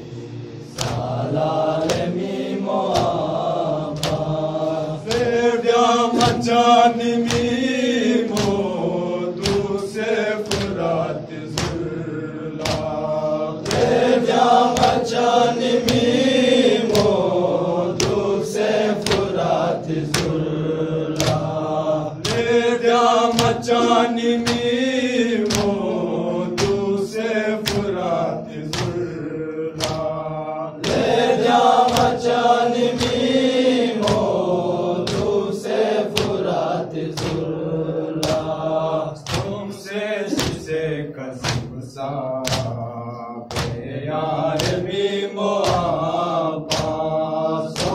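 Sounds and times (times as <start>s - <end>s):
men chanting a lament: 0.0s - 47.9s
chest-beating slaps: 0.1s - 42.9s, 43.5s - 47.9s.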